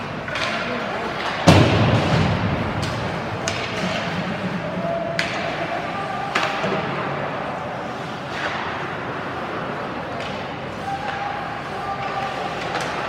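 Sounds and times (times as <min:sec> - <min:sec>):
arena background noise: 0:00.0 - 0:13.0
hockey stick hitting puck: 0:00.0 - 0:13.0.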